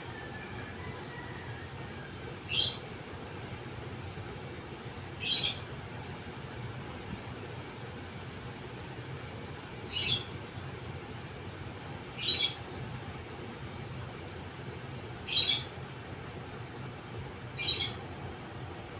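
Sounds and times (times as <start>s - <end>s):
low hum and hiss: 0.0s - 18.9s.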